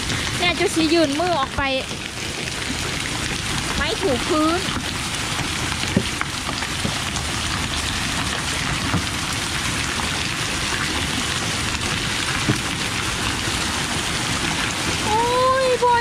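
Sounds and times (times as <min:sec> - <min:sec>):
hailstones ticking: 0:00.0 - 0:16.0
heavy rain: 0:00.0 - 0:16.0.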